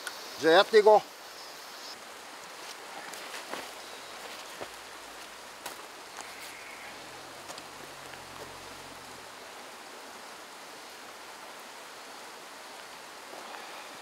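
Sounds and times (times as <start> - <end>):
mountain stream rushing: 0.0 - 14.0.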